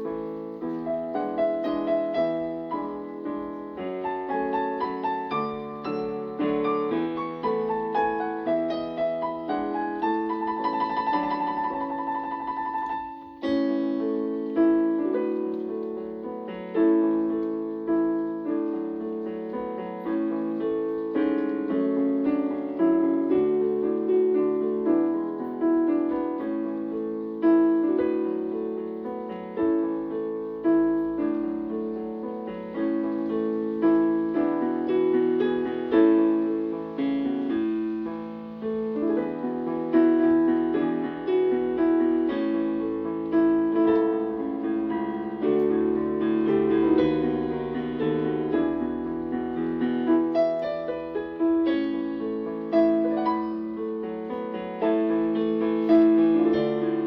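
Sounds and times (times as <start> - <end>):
electronic keyboard piano melody: 0.0 - 57.0.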